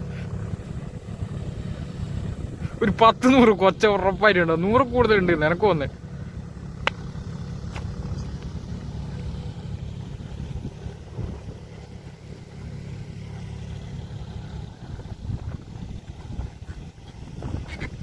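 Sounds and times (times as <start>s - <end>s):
engine running with low rumble: 0.0s - 18.0s.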